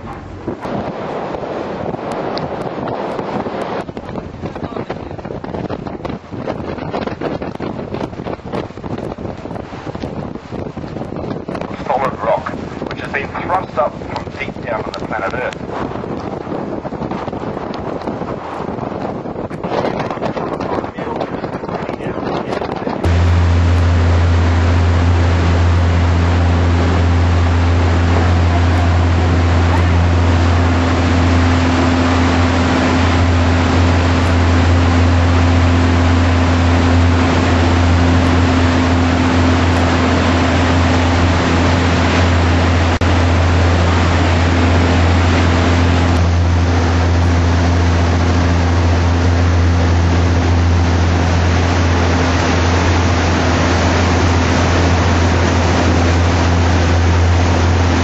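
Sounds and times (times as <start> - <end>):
boat engine droning: 0.0 - 58.0
wind and water rushing: 0.0 - 58.0.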